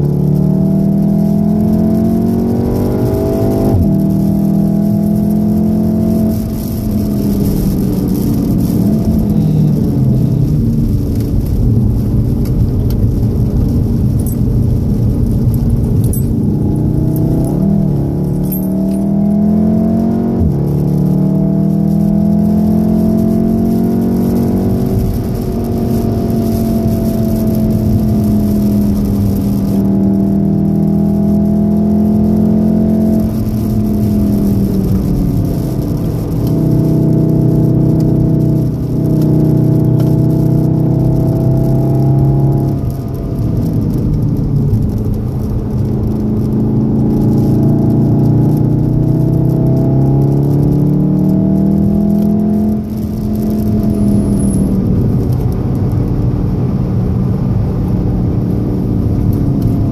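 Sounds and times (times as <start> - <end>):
car engine revving: 0.0 - 59.9
tyres hissing on wet road: 1.6 - 18.4, 19.1 - 56.2.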